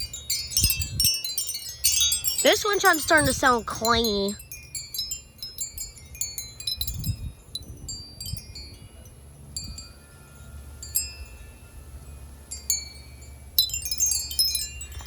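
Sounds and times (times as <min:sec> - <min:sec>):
low wind rumble: 0:00.0 - 0:15.0
metal wind chime clanging: 0:00.0 - 0:15.0.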